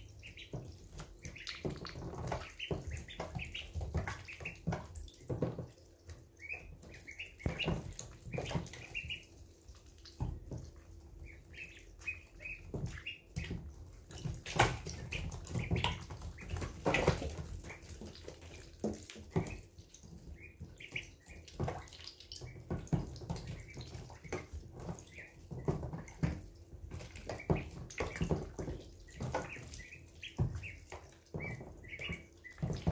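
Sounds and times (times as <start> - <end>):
ducklings peeping: 0.0 - 32.9
ducklings splashing in water: 0.0 - 32.9.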